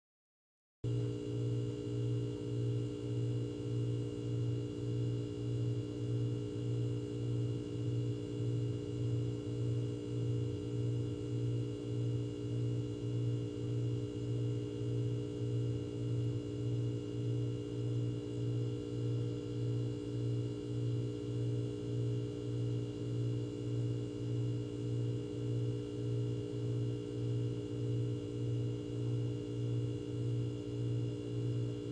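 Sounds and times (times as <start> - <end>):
refrigerator humming: 0.9 - 31.9.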